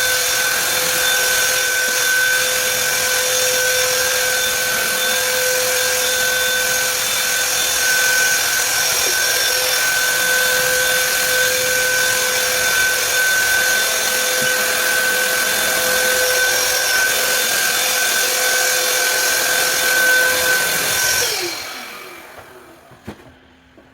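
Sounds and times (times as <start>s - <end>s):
power tool motor whining: 0.0s - 23.0s.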